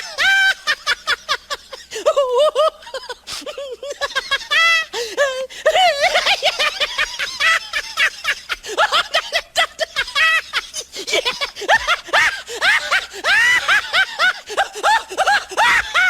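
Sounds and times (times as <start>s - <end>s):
high-pitched laugh: 0.0s - 16.0s.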